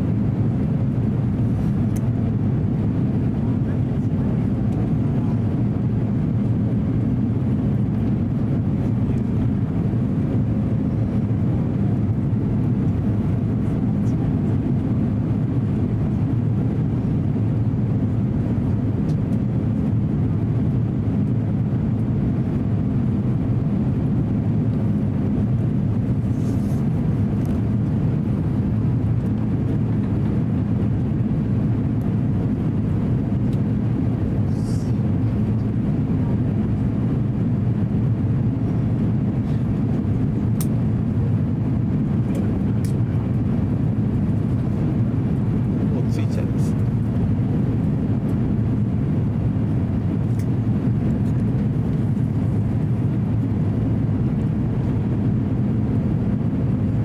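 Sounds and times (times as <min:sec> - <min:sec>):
airplane cabin roar: 0:00.0 - 0:57.0
faint steady hum: 0:00.0 - 0:57.0.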